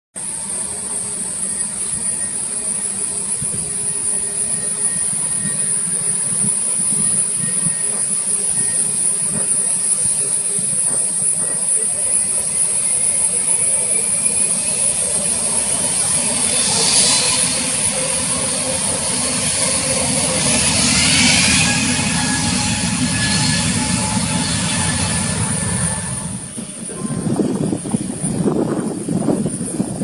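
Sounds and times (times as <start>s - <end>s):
jet engines rushing and whining: 0.2s - 30.0s
whining tones rising in pitch: 0.3s - 30.0s.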